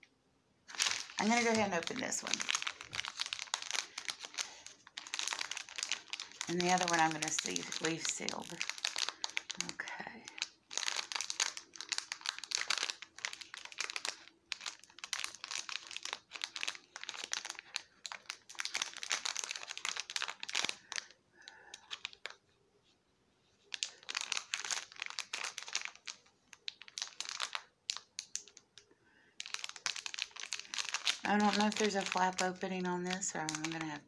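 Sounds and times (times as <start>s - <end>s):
plastic bag crinkling: 0.6s - 22.4s, 23.6s - 34.0s.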